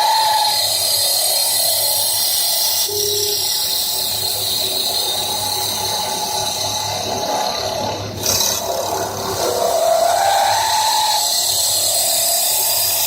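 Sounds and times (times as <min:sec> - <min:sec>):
wood lathe whining: 0:00.0 - 0:13.0.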